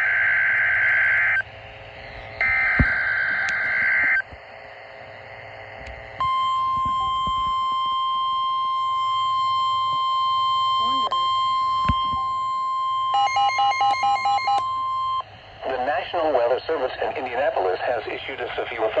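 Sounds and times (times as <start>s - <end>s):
steady attention tone: 0.0s - 18.4s.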